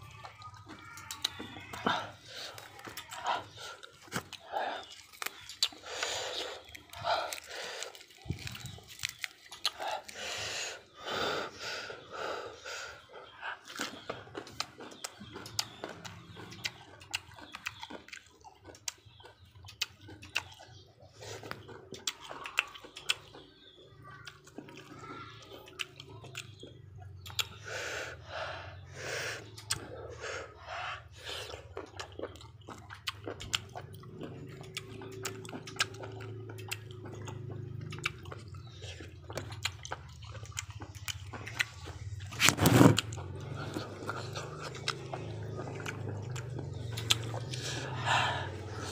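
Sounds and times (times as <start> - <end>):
person chewing and lip-smacking: 0.0 - 48.9.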